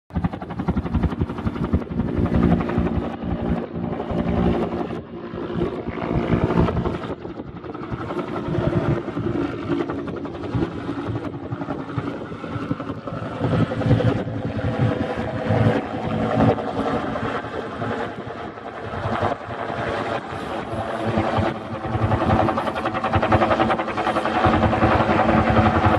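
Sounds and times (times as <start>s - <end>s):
helicopter rotor beating: 0.1s - 25.9s.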